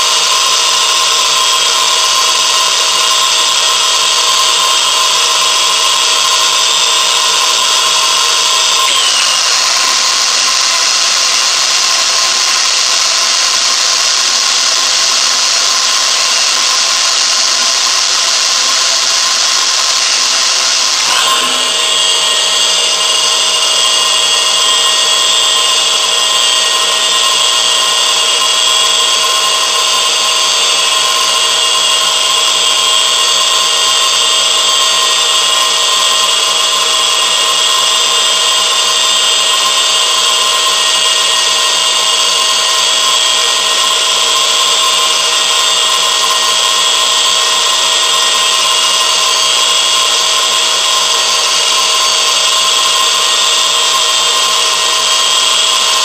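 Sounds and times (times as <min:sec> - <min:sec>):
machine motor whine: 0:00.0 - 0:56.0.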